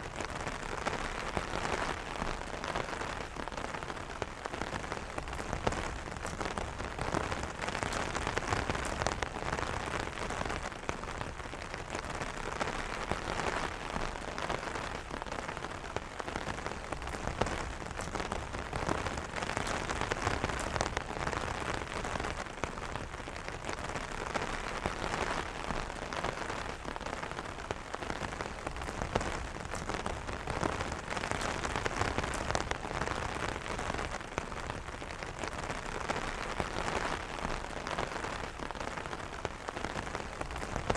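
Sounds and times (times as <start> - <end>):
rain drumming on umbrella: 0.0 - 40.9.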